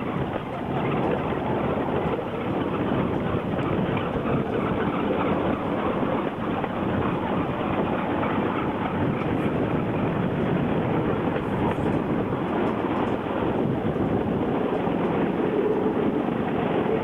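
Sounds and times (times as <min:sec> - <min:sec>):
wheels rattling on rails: 0:00.0 - 0:17.0.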